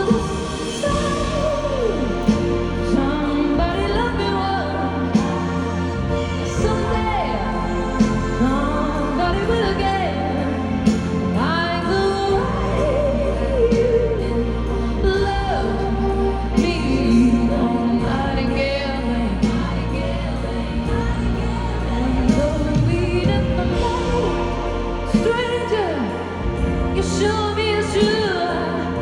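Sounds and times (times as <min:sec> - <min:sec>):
choir-like backing vocals: 0:00.0 - 0:29.0
live band playing: 0:00.0 - 0:29.0
woman singing lead: 0:00.0 - 0:29.0.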